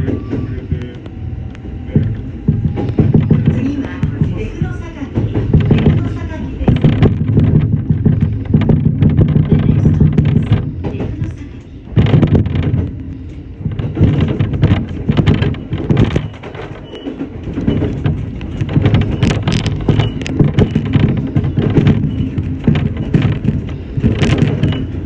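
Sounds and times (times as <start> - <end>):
electric train rumbling: 0.0 - 25.0
wheels knocking on track: 1.6 - 25.0.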